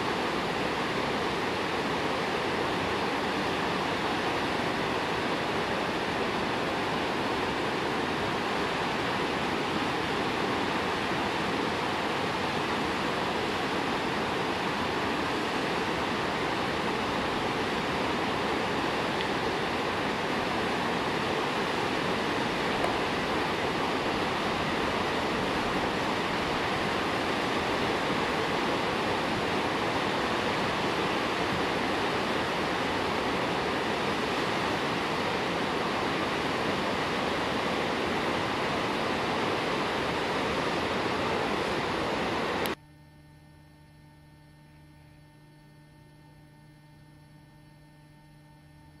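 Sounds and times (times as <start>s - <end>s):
river rapids rushing: 0.0s - 42.7s
faint steady hum: 0.0s - 49.0s.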